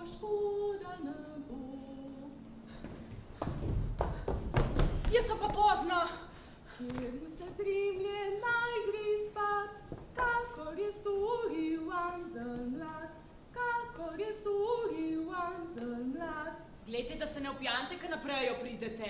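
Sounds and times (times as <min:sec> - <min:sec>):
woman singing unaccompanied: 0:00.0 - 0:02.8, 0:05.0 - 0:19.0.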